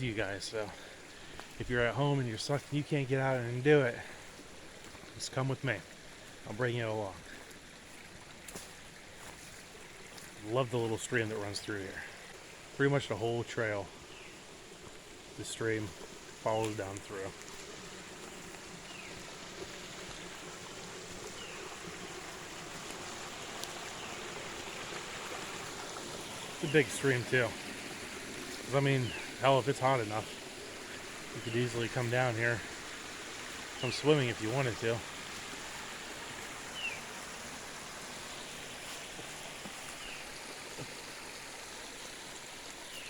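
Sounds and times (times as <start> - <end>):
stream rushing: 0.0 - 43.0.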